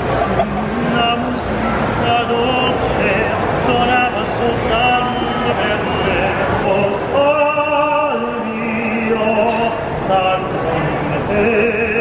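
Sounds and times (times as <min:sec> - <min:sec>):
person singing operatically: 0:00.0 - 0:12.0.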